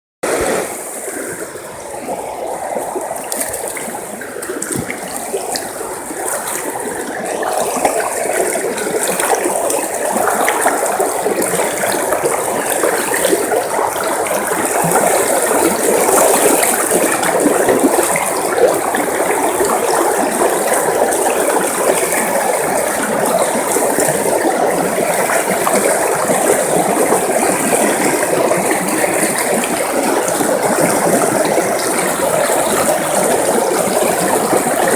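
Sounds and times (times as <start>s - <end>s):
river water rushing: 0.3s - 34.9s.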